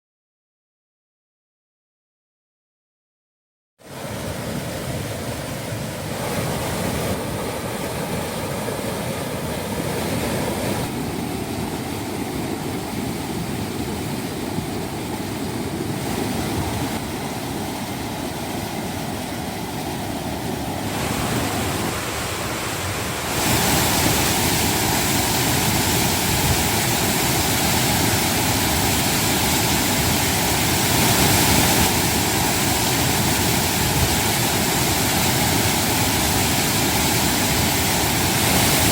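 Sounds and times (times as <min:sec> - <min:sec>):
waterfall roaring: 0:04.0 - 0:38.9.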